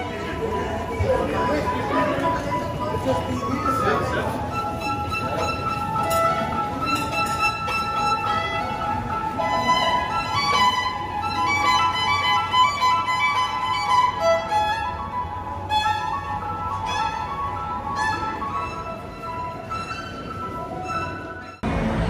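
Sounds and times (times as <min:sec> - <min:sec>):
solo violin melody: 0:03.0 - 0:21.6.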